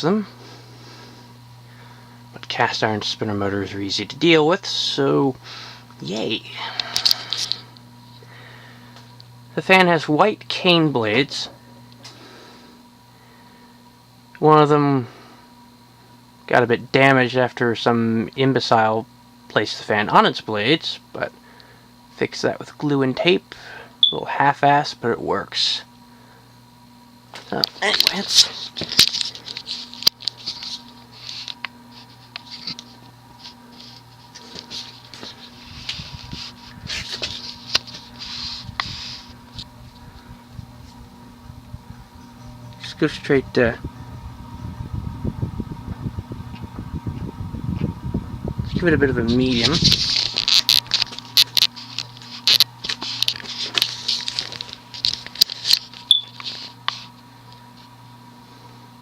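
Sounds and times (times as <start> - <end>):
ceiling fan motor humming: 0.0 - 59.0
fan bearing noise: 0.0 - 59.0.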